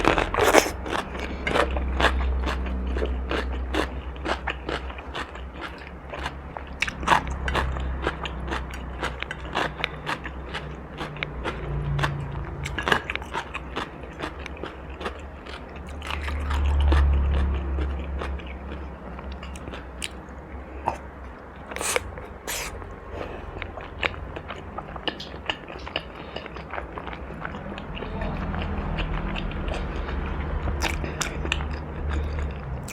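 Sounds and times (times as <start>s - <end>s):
chewing crunchy food: 0.0s - 32.9s.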